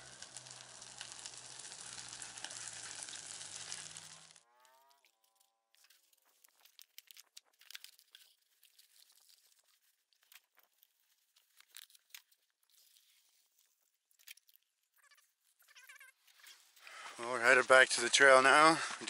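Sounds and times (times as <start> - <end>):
plastic packaging crinkling: 0.0 - 15.6.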